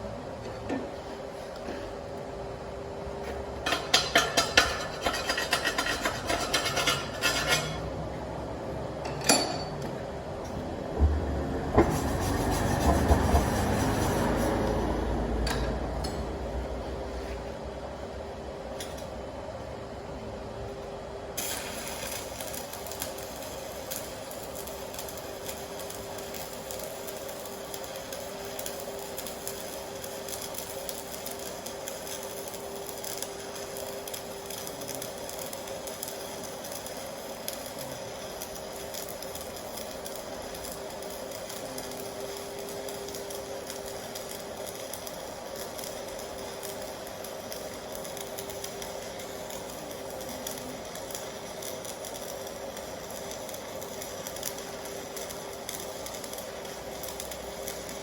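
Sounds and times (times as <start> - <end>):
constant electrical buzz: 0.0 - 58.0
welding arc hissing and crackling: 1.0 - 8.8, 10.0 - 19.6, 21.3 - 58.0.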